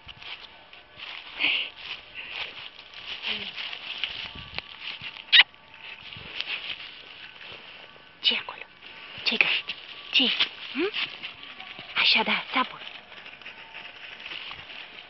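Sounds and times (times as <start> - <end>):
dog rustling through dry leaves: 0.0 - 15.0.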